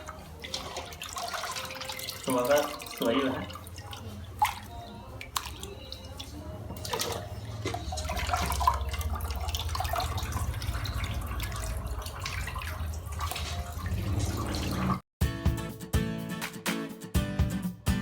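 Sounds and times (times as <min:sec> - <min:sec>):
water sloshing and dripping: 0:00.0 - 0:15.0.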